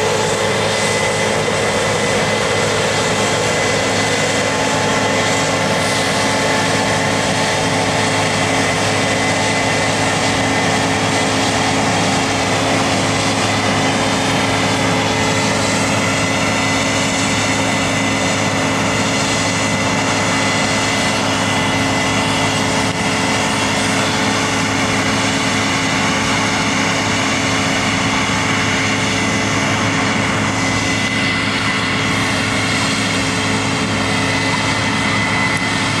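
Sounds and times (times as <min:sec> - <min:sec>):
combine harvester drone: 0:00.0 - 0:36.0
high machine whine: 0:00.0 - 0:36.0.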